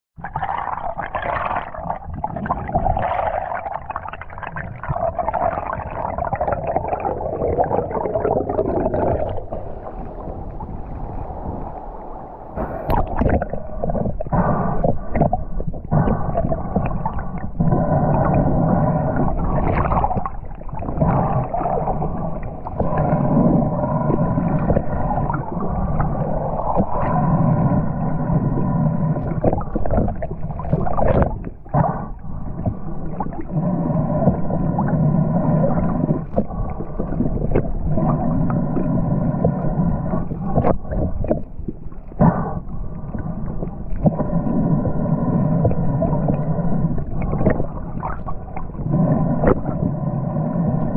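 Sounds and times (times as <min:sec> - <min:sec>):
underwater boat engine drone: 0:04.8 - 0:50.9.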